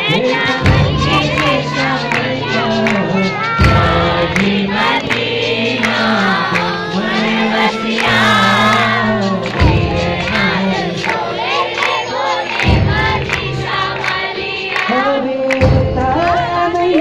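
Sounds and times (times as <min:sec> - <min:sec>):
heavy beat: 0:00.0 - 0:17.0
men singing: 0:00.0 - 0:17.0
sustained keyboard accompaniment: 0:00.0 - 0:17.0.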